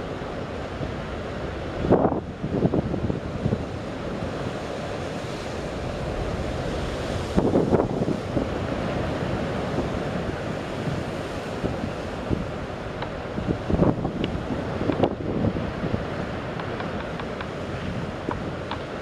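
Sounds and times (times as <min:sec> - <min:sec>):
waves breaking on breakwater: 0:00.0 - 0:19.0
wind buffeting microphone: 0:00.8 - 0:19.0.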